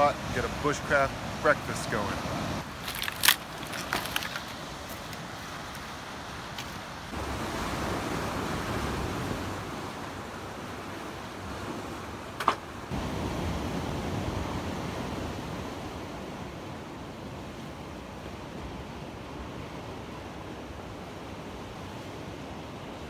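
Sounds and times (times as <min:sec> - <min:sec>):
ocean surf washing over rocks: 0:00.0 - 0:23.0.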